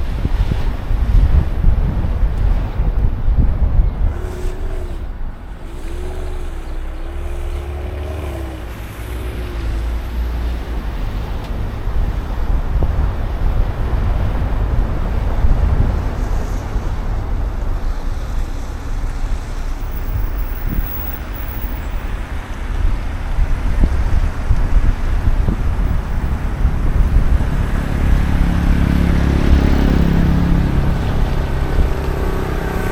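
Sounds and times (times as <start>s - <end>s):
cars and trucks passing: 0.0s - 32.9s.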